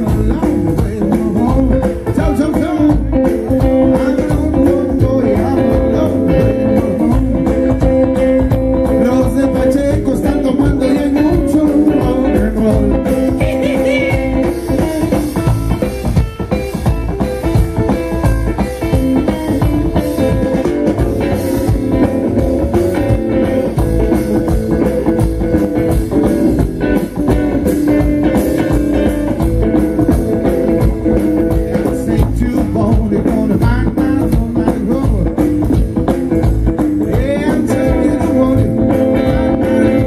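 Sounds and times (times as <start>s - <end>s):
drum kit steady beat: 0.0s - 40.0s
electric guitar: 0.0s - 40.0s
upright double bass: 0.0s - 40.0s.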